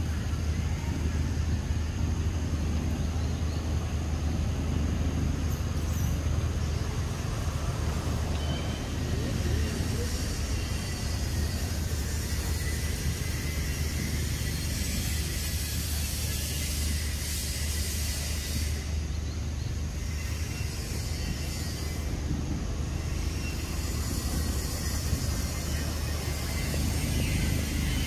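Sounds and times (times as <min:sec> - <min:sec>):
even hiss: 0:00.0 - 0:28.0.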